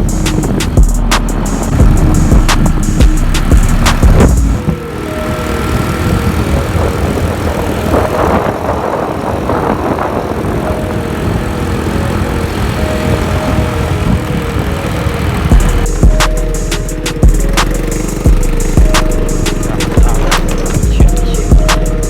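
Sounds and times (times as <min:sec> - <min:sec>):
small motorcycle running: 0:00.0 - 0:22.0.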